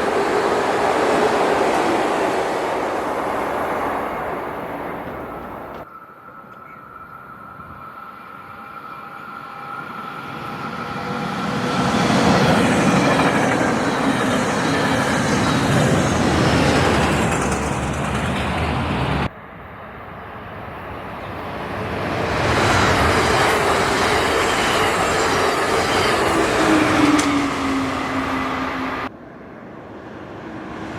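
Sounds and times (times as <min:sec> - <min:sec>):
train passing on rails: 0:00.0 - 0:30.9.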